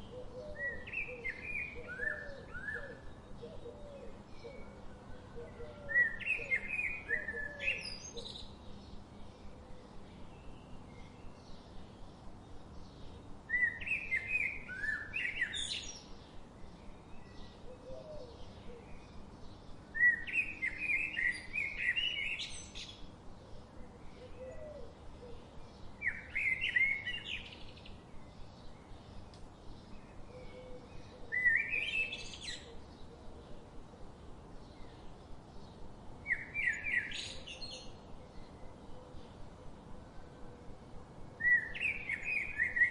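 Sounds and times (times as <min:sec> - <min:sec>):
songbird chirping: 0:00.0 - 0:42.9.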